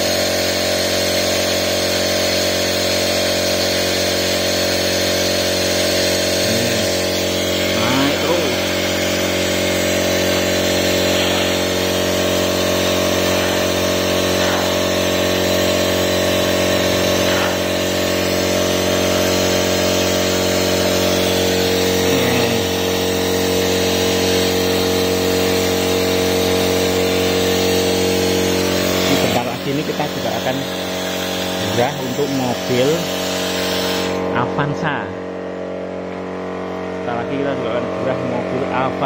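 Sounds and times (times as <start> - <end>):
motor running steadily: 0.0 - 39.0.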